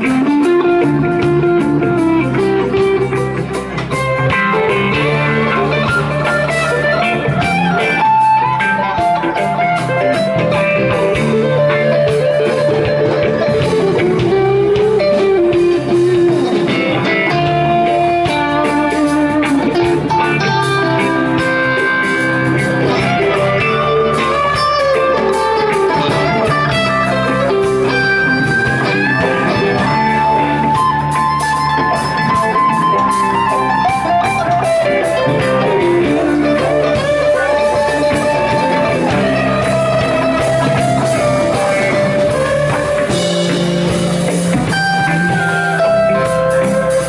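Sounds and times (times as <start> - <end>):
electric guitar lead lines: 0.0 - 47.0
reggae band playing: 0.0 - 47.0.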